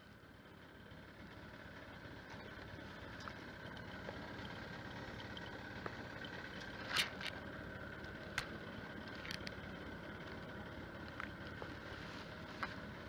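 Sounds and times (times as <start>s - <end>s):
boat engine idling: 0.0s - 13.0s
faint gear clicks: 2.2s - 13.0s.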